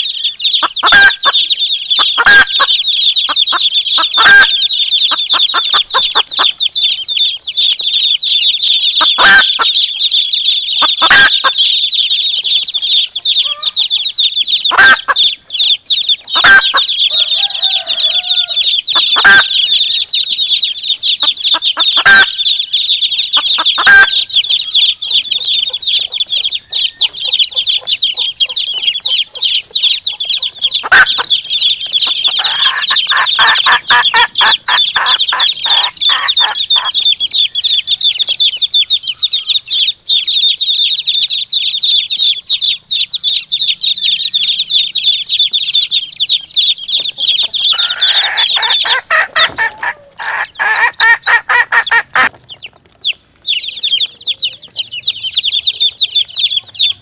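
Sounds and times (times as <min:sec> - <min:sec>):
chicks peeping: 0:00.0 - 0:57.0
hen clucking: 0:00.0 - 0:57.0.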